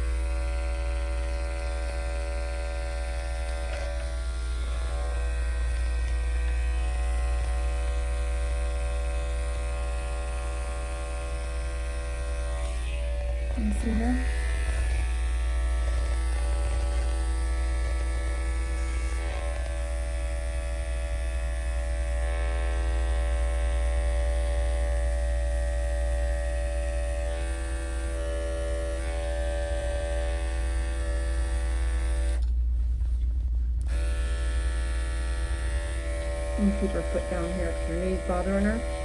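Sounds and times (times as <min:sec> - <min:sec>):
electric clippers buzzing: 0:00.0 - 0:32.6, 0:33.8 - 0:39.0.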